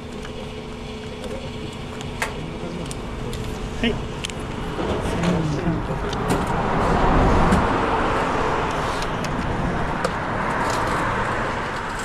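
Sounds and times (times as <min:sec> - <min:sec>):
road vehicle passing: 0:00.0 - 0:12.0.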